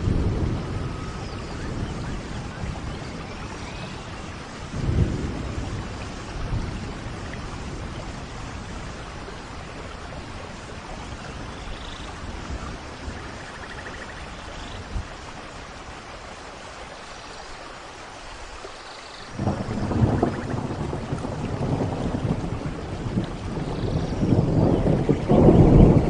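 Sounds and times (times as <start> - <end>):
thunder rumbling: 0.0 - 15.3, 19.3 - 26.0
steady rain: 0.0 - 26.0.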